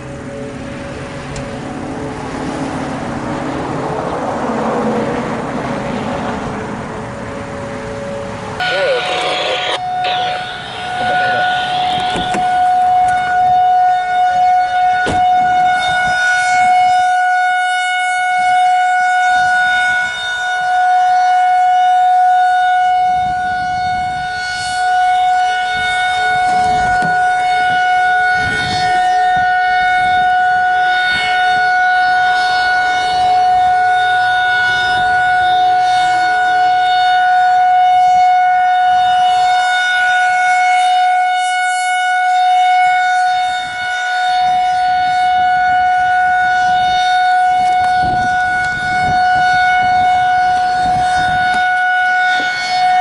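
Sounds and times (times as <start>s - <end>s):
warning siren steady tone: 0.0s - 53.0s.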